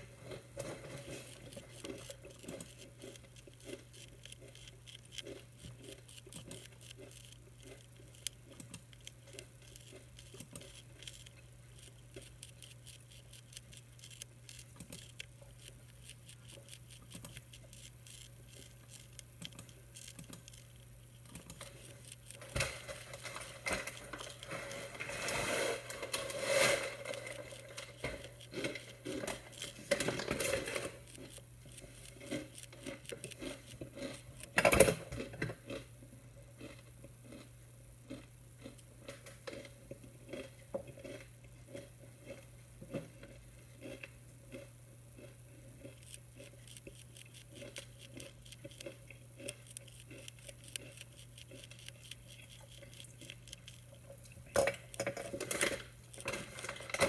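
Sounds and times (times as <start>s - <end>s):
caterpillar chewing leaf: 0.0s - 35.9s, 43.2s - 57.0s.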